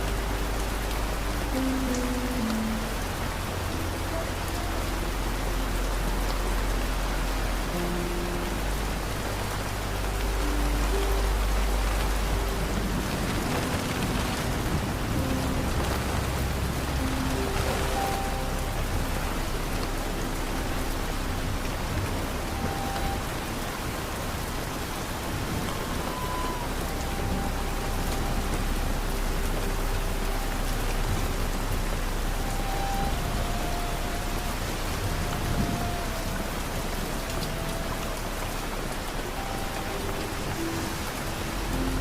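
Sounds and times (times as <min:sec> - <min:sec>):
soft music notes: 0:00.0 - 0:42.0
steady rain hissing: 0:00.0 - 0:42.0.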